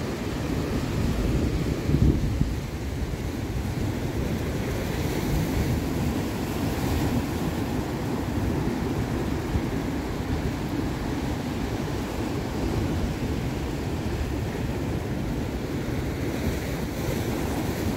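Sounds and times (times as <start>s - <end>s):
ocean surf breaking on rocks: 0.0s - 17.9s
wind buffeting microphone: 0.2s - 17.9s.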